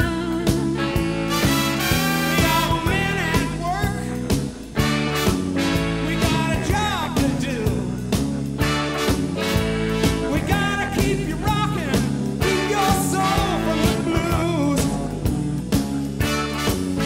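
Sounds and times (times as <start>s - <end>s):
song with steady drum beat: 0.0s - 17.0s.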